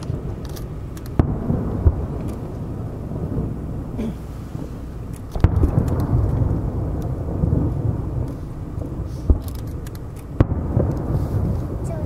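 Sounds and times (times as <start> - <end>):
firework booms rumbling: 0.0 - 12.0
sharp firework bangs: 0.0 - 12.0.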